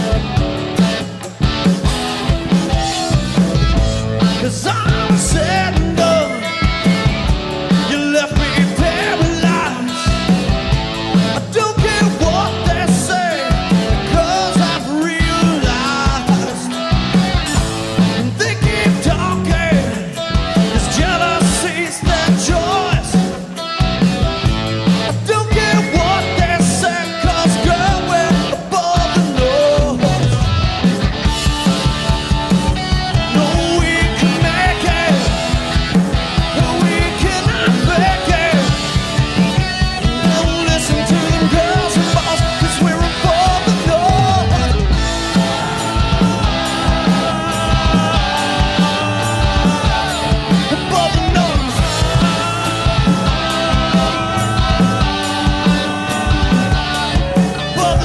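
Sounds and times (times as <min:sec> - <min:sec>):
drums: 0:00.0 - 0:58.0
electric guitars: 0:00.0 - 0:58.0
live rock band playing: 0:00.0 - 0:58.0
man singing: 0:03.8 - 0:07.1, 0:07.7 - 0:10.6, 0:11.3 - 0:23.6, 0:25.1 - 0:30.8, 0:32.9 - 0:58.0.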